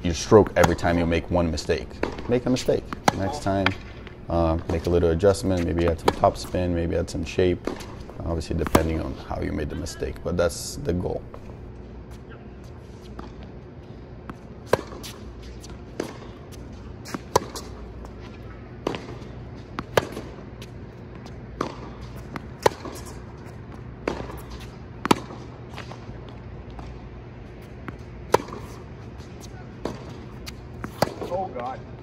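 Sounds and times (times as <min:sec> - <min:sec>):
rackets hitting tennis ball: 0:00.2 - 0:11.6, 0:14.2 - 0:27.0, 0:27.6 - 0:31.8
tennis ball bouncing: 0:00.3 - 0:10.3, 0:14.3 - 0:27.0, 0:27.6 - 0:31.7.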